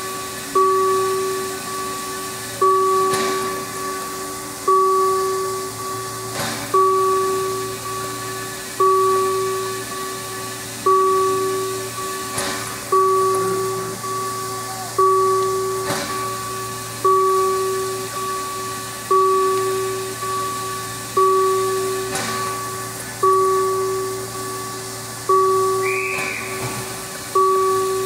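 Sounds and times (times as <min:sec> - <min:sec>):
electronic warning signal ringing: 0:00.0 - 0:28.0
steam locomotive hissing steam: 0:00.0 - 0:28.0.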